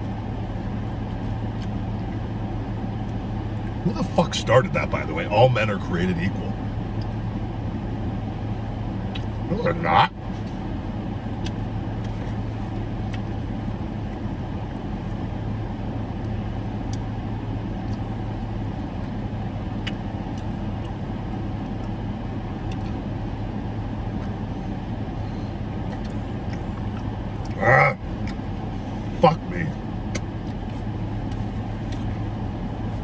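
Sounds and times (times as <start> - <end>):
car idling hum: 0.0 - 33.0.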